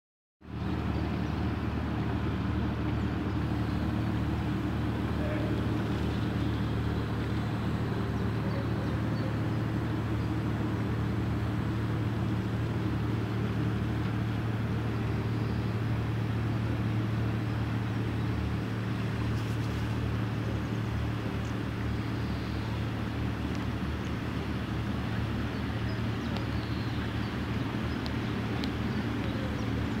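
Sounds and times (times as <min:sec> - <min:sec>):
ship diesel engine drone: 0:00.4 - 0:30.0.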